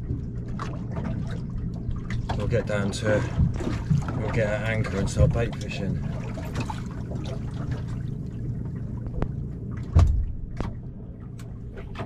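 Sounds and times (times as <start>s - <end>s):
steady low hum: 0.0s - 12.0s
water lapping against boat hull: 0.0s - 12.0s.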